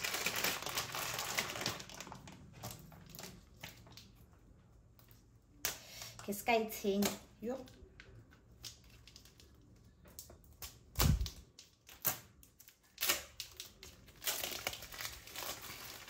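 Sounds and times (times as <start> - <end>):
plastic packaging crackling: 0.0 - 6.2, 6.9 - 16.0.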